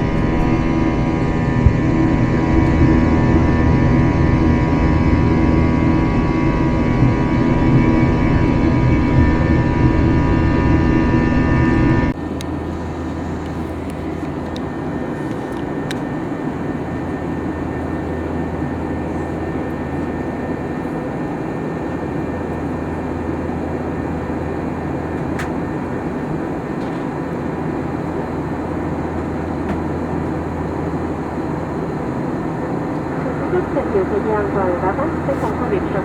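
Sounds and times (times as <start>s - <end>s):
low hum: 0.0s - 26.6s, 27.8s - 36.0s
airplane cabin drone: 0.0s - 36.0s.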